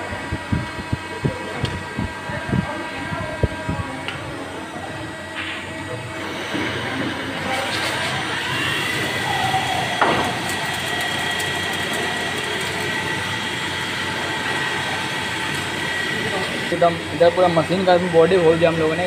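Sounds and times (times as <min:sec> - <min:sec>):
lathe spindle whine: 0:00.0 - 0:19.0.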